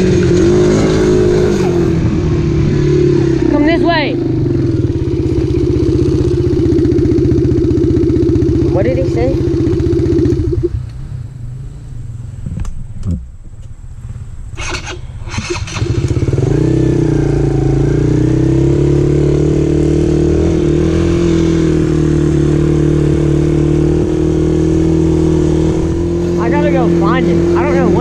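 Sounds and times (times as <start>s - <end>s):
dirt bike engine: 0.0s - 28.0s.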